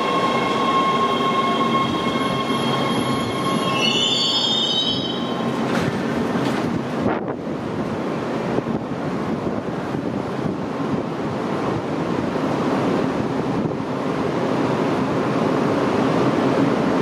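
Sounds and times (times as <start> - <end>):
train ventilation rushing hum: 0.0 - 17.0.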